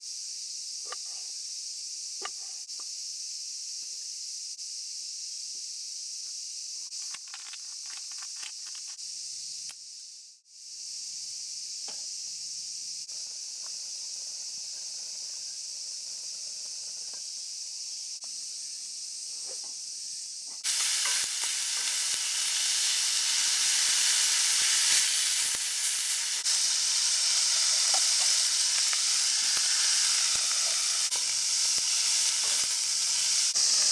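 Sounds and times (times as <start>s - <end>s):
food sizzling in a pan: 0.0s - 33.9s.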